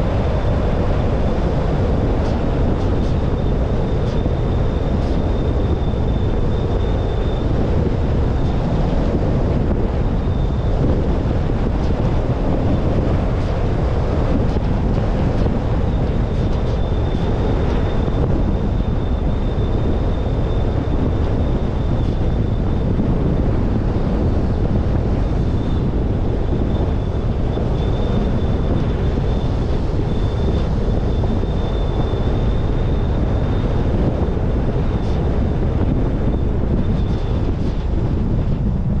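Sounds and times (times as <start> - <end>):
high whine: 0.0 - 39.0
road noise: 0.0 - 39.0
wind rushing over camera: 0.0 - 39.0.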